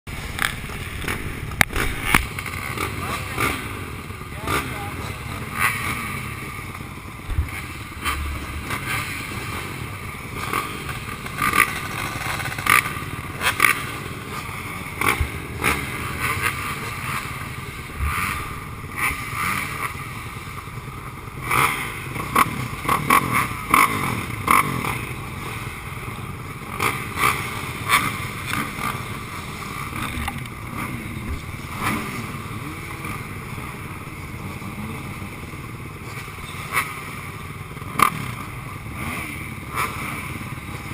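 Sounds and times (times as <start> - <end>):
dirt bike engine revving: 0.1 - 40.9.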